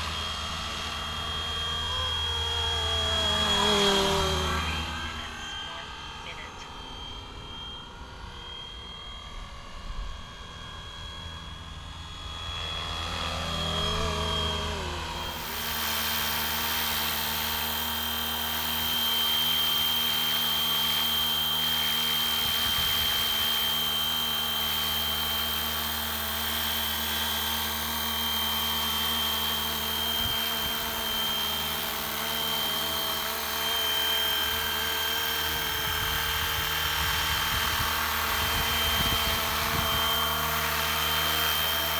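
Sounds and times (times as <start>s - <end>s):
toy helicopter motor whine: 0.0s - 41.9s.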